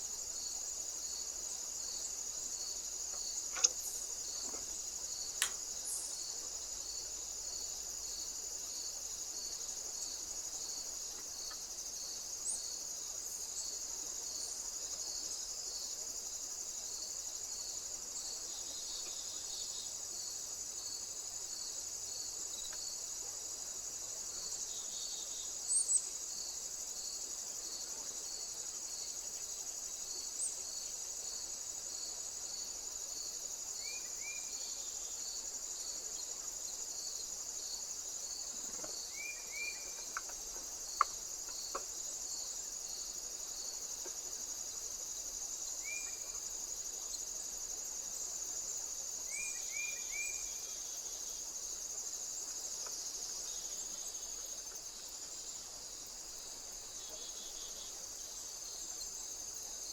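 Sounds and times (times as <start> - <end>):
cricket chirping: 0.0 - 59.9
insects droning: 0.0 - 59.9.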